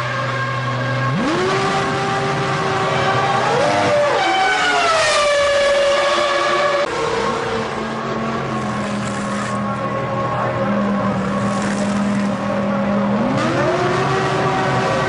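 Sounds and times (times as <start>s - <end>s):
racing car engines at high revs: 0.0s - 15.0s.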